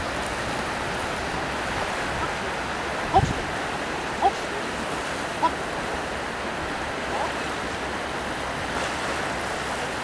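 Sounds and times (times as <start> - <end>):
waves washing onto beach: 0.0 - 10.0.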